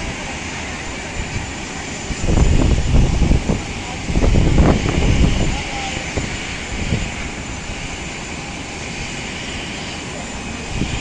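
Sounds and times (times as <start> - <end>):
jet aircraft rushing noise: 0.0 - 11.0.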